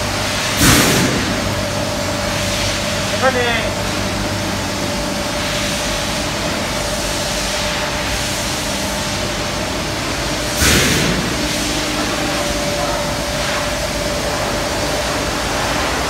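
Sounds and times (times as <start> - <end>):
machinery hum: 0.0 - 16.0
mid-pitched machine whine: 0.0 - 16.0.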